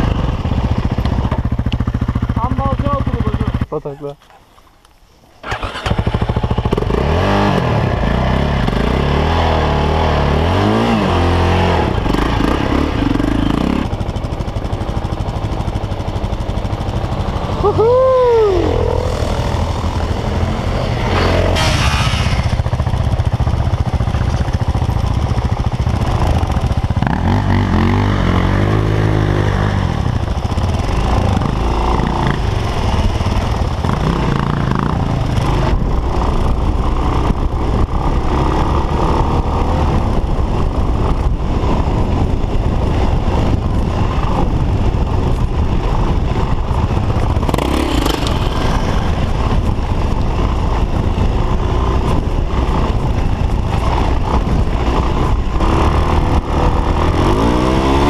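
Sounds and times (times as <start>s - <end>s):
motorcycle engine revving: 0.0s - 4.0s, 5.4s - 58.0s.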